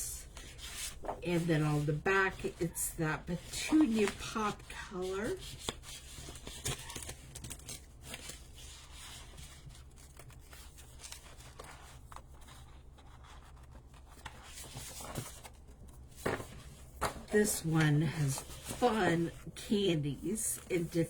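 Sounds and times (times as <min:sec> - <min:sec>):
cardstock paper rustling: 0:00.2 - 0:21.0.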